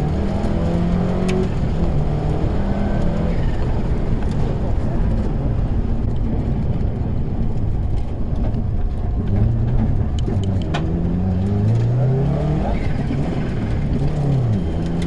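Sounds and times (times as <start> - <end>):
car engine accelerating: 0.0 - 15.0
road and wind noise: 0.0 - 15.0.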